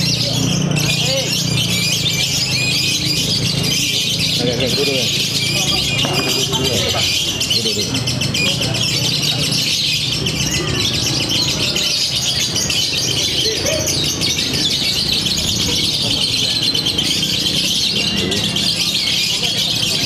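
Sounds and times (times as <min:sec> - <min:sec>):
lovebirds chattering trill: 0:00.0 - 0:20.0
low murmur of crowd: 0:00.0 - 0:20.0.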